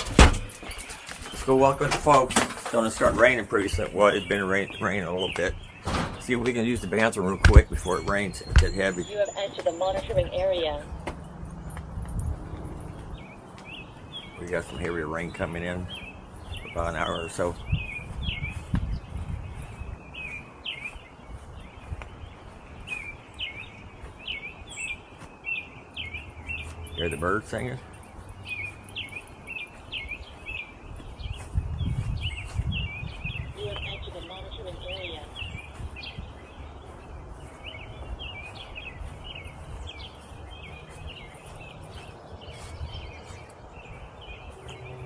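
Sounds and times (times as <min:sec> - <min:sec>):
songbird chirping: 0:00.0 - 0:45.0.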